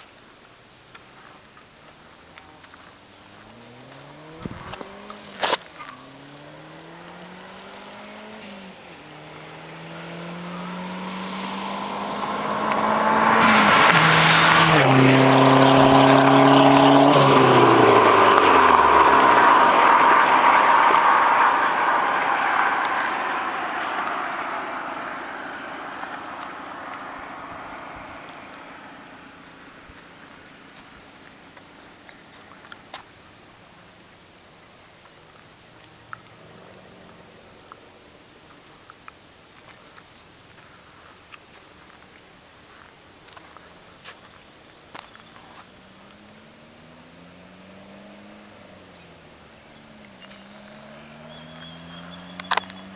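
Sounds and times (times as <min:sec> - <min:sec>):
insects chirping: 0:00.0 - 0:52.9
car driving away: 0:01.9 - 0:39.8, 0:42.8 - 0:52.9.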